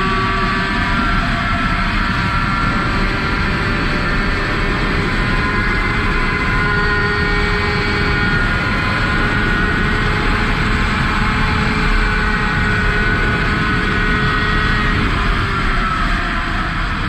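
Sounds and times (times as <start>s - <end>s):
two-stroke moped engine revving high: 0.0s - 15.8s
wind on microphone: 0.0s - 17.0s.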